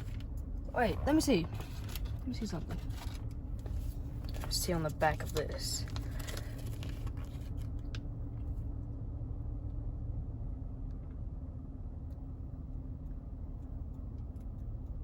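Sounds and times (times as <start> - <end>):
car engine idling hum: 0.0 - 15.0.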